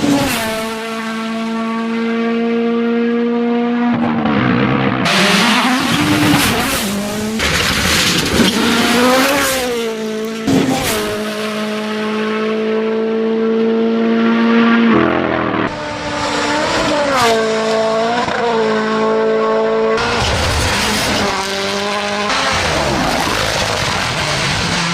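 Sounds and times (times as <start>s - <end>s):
car engines revving hard: 0.0s - 24.9s.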